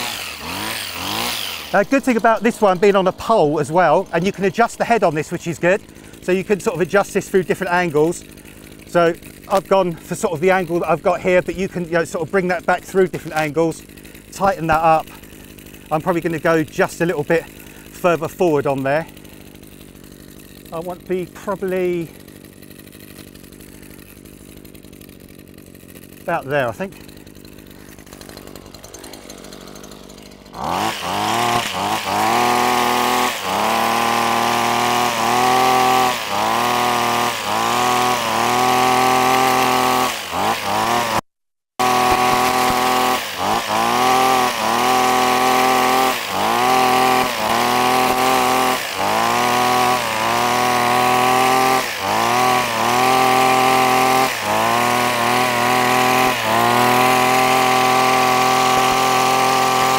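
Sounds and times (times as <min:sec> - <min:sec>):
hedge trimmer engine revving: 0:00.0 - 0:41.2, 0:41.8 - 0:59.9.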